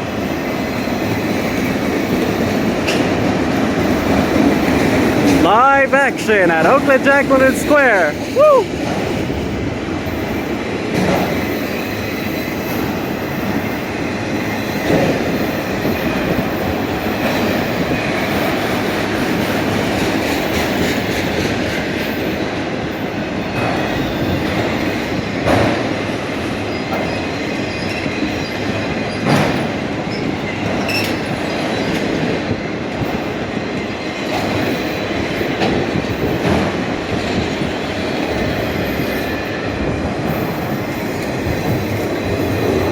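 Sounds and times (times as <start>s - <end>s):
steel wheels rumbling on rail: 0.0s - 5.4s, 6.9s - 42.9s
train cars clanking and knocking: 0.2s - 8.1s, 8.9s - 42.9s.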